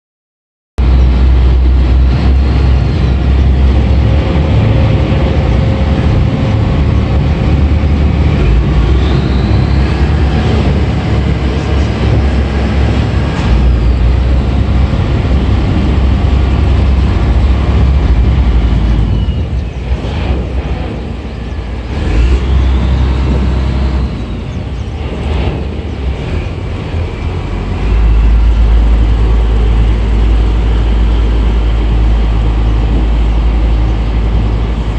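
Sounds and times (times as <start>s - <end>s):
wind buffeting microphone: 0.8s - 34.9s.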